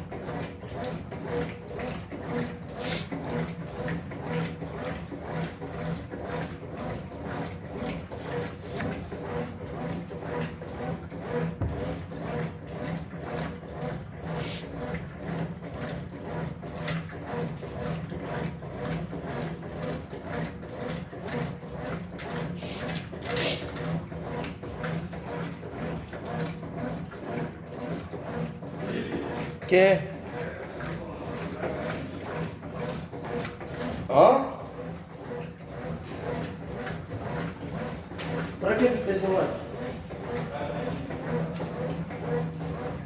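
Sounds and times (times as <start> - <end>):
washing machine swishing: 0.1 - 43.0.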